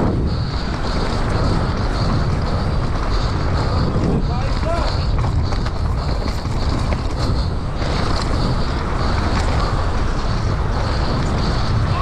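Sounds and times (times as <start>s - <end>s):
bike rattling and knocking: 0.0s - 12.0s
tyres rumbling on dirt trail: 0.0s - 12.0s
wind on microphone: 0.0s - 12.0s.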